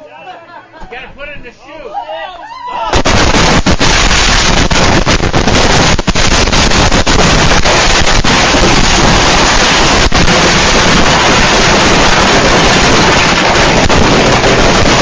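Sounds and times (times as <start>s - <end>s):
fireworks hissing and crackling: 2.9s - 15.0s
sharp firework crack: 2.9s - 15.0s.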